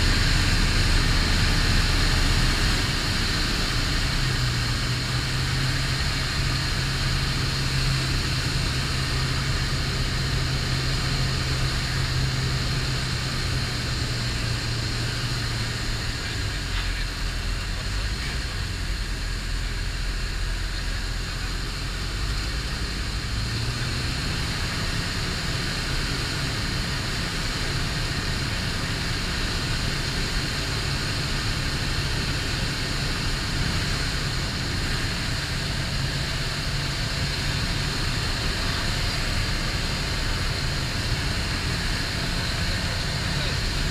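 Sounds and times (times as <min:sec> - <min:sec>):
light aircraft engine droning: 0:00.0 - 0:43.9.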